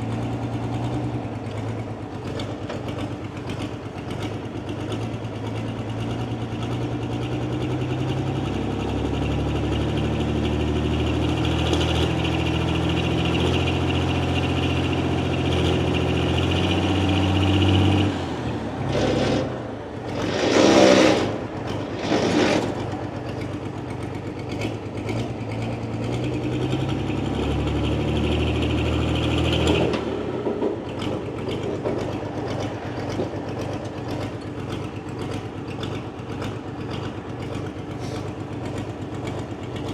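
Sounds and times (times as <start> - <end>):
diesel tractor engine revving: 0.0 - 39.9.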